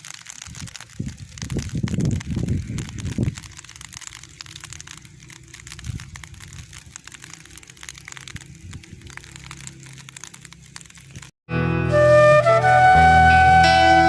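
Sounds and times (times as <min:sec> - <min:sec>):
light rain pattering: 0:00.0 - 0:11.4.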